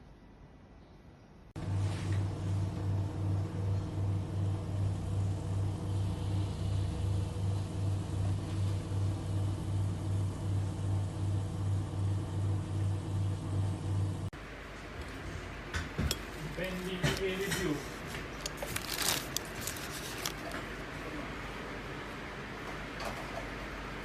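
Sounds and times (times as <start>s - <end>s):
loud pulsing electrical hum: 1.6s - 24.0s.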